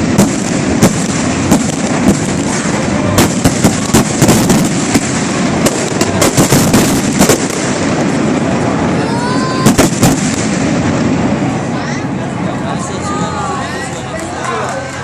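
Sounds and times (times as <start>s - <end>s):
continuous crackling rumble: 0.0s - 15.0s
fireworks bangs and cracks: 0.0s - 15.0s.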